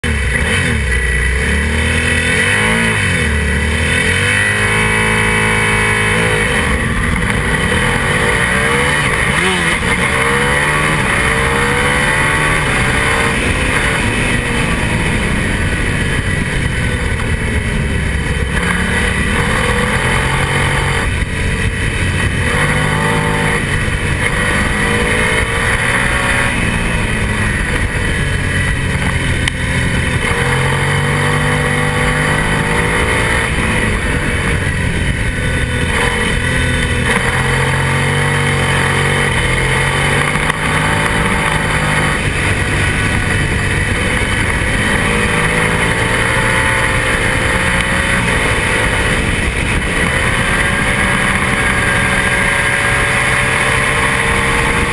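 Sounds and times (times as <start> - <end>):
other racing bikes: 0.0 - 54.9
racing motorcycle accelerating: 0.0 - 54.9.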